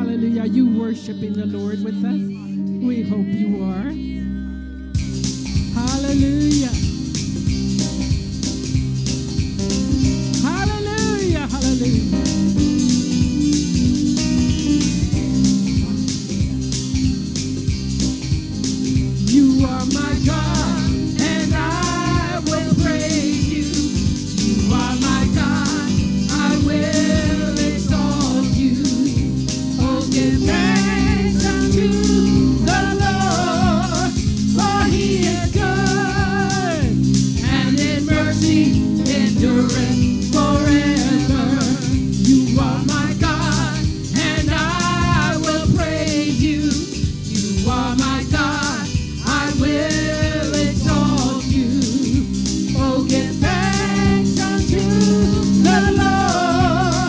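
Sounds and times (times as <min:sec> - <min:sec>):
instrumental accompaniment: 0:05.0 - 0:57.0
voices singing gospel: 0:05.0 - 0:57.0.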